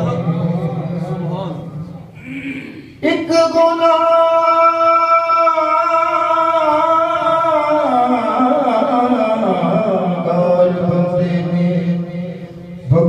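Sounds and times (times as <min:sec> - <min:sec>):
man singing: 0:00.0 - 0:01.0, 0:02.2 - 0:13.0.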